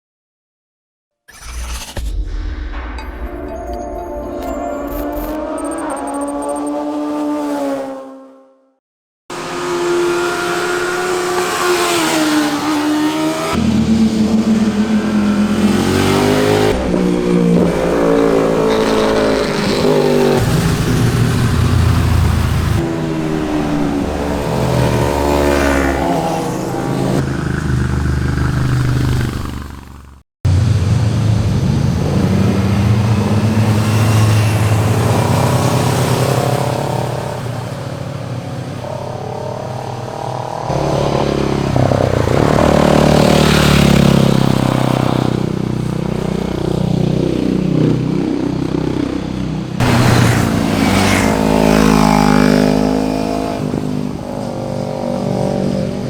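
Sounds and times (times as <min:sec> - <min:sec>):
motorcycles riding past: 0:09.4 - 0:56.0.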